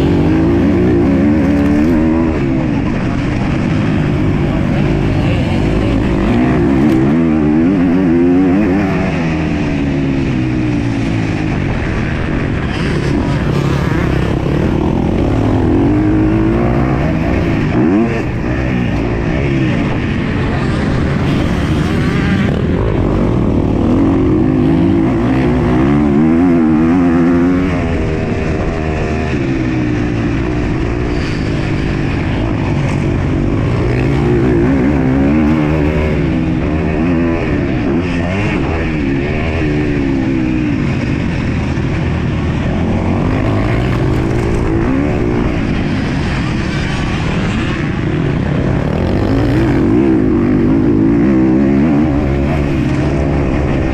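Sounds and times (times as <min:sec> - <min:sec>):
motocross bike engine racing: 0:00.0 - 0:53.9.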